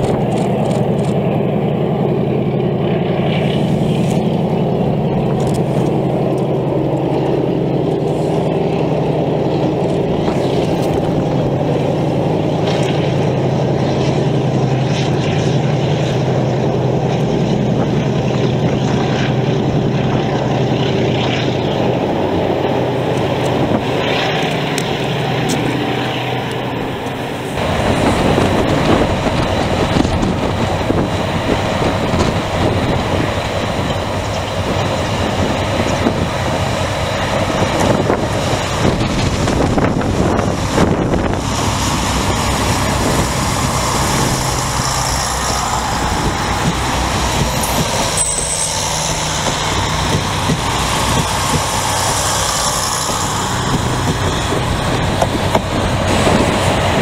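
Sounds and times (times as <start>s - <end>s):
diesel locomotive running: 0.0s - 57.0s
passing train wheel and rail noise: 0.0s - 57.0s.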